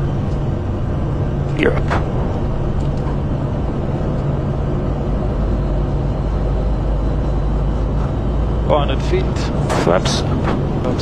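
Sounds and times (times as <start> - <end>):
jet engine noise: 0.0 - 11.0
low steady hum: 0.0 - 11.0.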